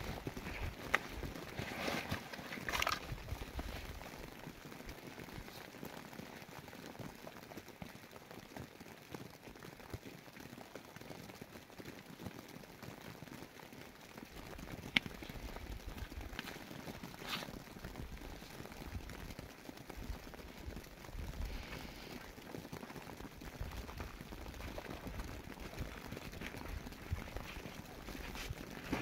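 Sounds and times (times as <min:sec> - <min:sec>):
rain on ground and plastic tarp: 0:00.0 - 0:29.0.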